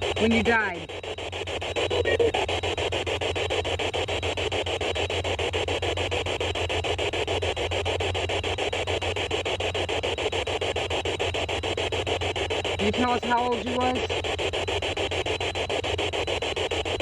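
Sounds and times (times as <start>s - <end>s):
rhythmic pulsing static: 0.0s - 17.0s.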